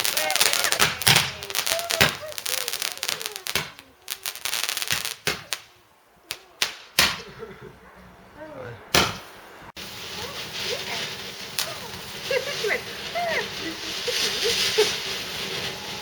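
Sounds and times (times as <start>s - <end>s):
fireworks exploding: 0.0s - 7.4s, 8.9s - 16.0s.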